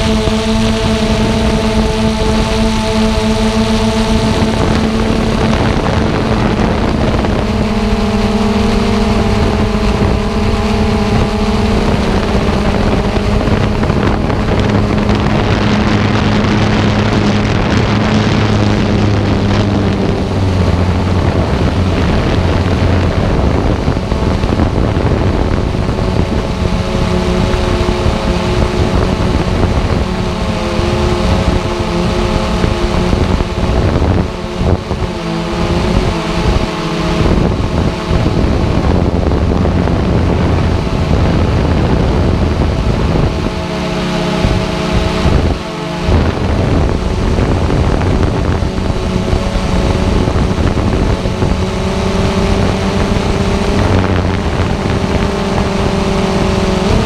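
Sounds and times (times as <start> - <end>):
drone motors whining: 0.0 - 57.0
wind buffeting microphone: 0.0 - 57.0.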